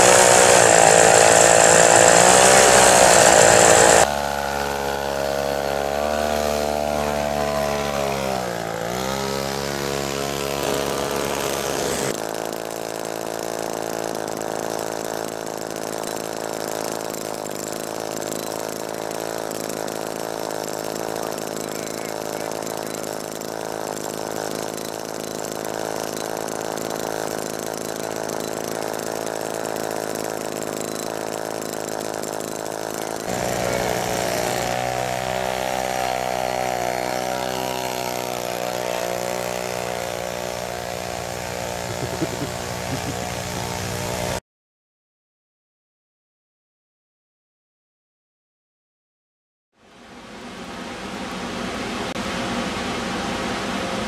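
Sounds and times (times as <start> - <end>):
small two-stroke engine running: 0.0 - 44.4.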